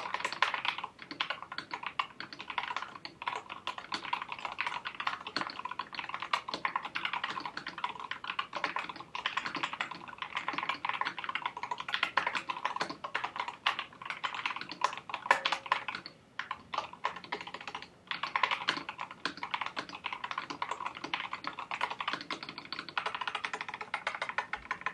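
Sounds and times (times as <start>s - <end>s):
mechanical keyboard typing: 0.0s - 24.9s.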